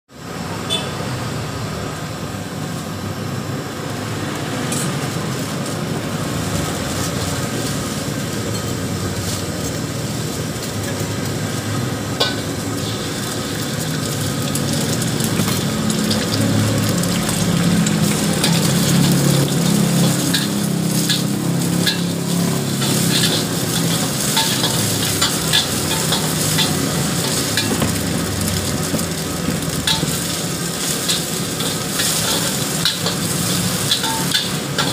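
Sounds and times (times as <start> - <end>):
wok rushing on fire: 1.2 - 34.9
egg sizzling in hot wok: 3.6 - 34.9
metal spatula scraping wok: 4.6 - 34.9.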